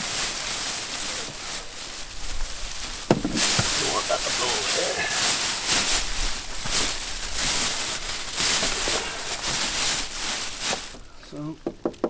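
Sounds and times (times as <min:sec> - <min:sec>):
packaging rustling and crinkling: 0:00.0 - 0:11.2.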